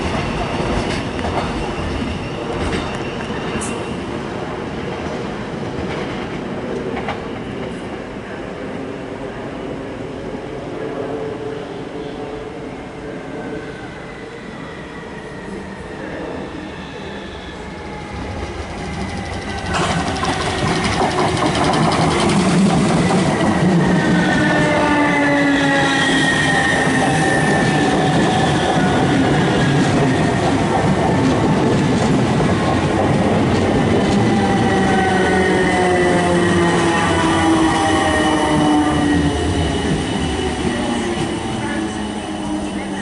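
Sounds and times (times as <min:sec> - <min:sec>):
train wheel and track noise: 0:00.0 - 0:43.0.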